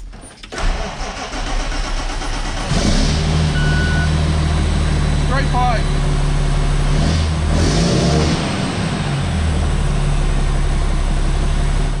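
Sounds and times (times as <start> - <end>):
diesel truck engine running: 0.7 - 12.0.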